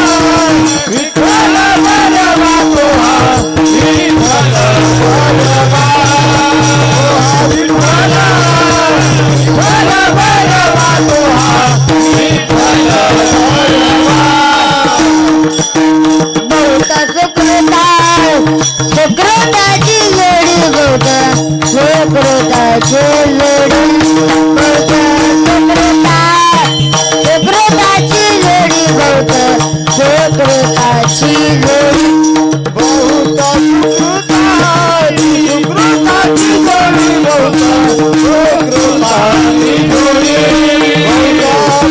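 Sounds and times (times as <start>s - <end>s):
drum beat: 0.0s - 41.9s
hand cymbals: 0.0s - 41.9s.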